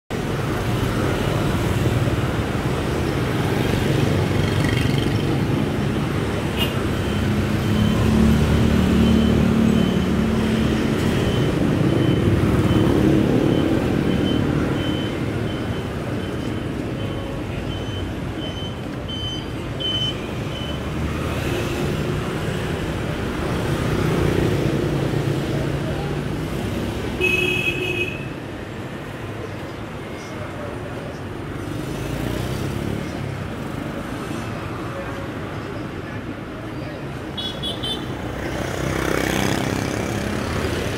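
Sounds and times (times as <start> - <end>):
street traffic passing: 0.1 - 40.9.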